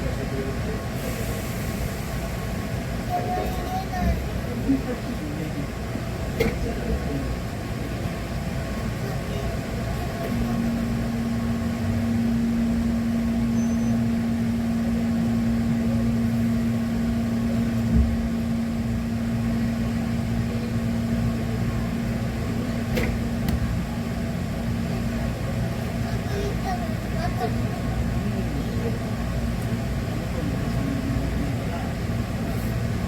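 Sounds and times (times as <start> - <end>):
train low rumble: 0.0 - 33.0.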